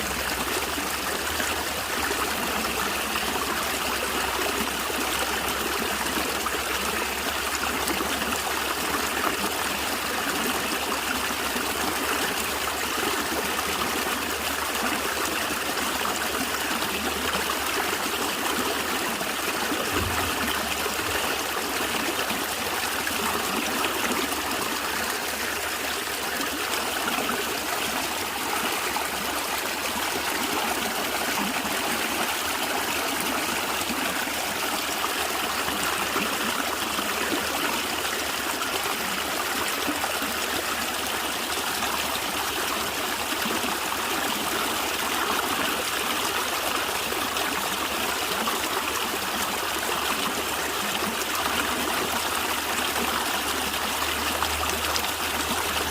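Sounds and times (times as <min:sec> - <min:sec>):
stream water gurgling: 0:00.0 - 0:55.9.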